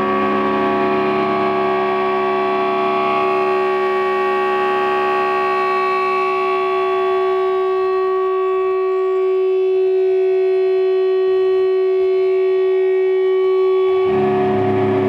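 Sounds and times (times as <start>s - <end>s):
electric guitar feedback drone: 0.0s - 15.0s.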